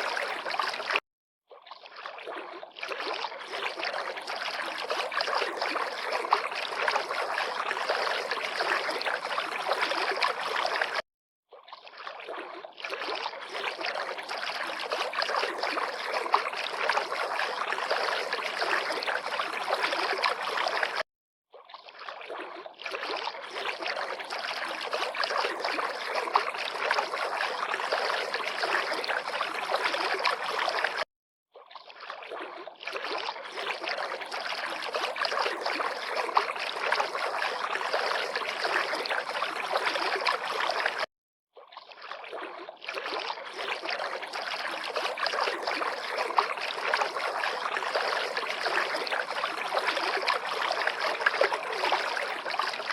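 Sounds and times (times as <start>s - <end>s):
river water lapping and splashing: 0.0s - 52.9s.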